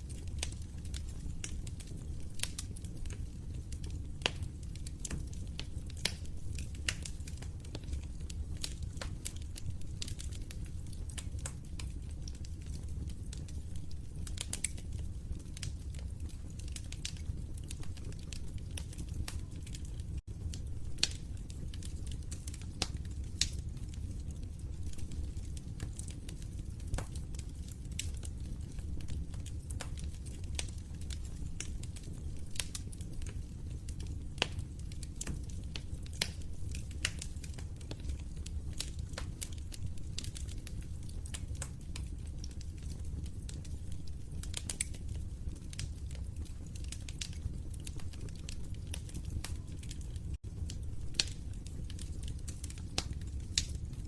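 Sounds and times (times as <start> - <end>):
open fire crackling: 0.0 - 54.0.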